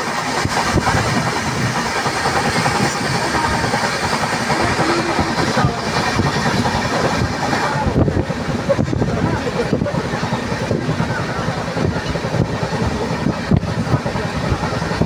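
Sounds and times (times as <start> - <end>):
moving train running noise: 0.0 - 15.0
passing train coaches: 0.0 - 15.0.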